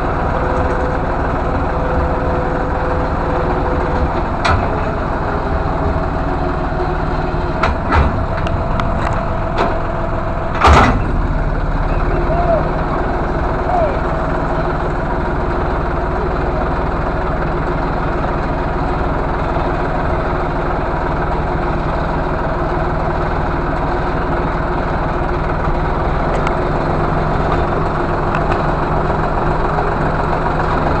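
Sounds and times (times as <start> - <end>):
small vehicle engine running: 0.0 - 31.0.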